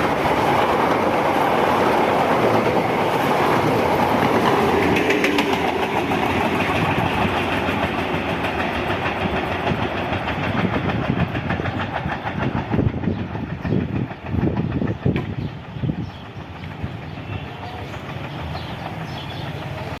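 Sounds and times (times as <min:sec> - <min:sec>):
train wagons clattering over rails: 0:00.0 - 0:20.0.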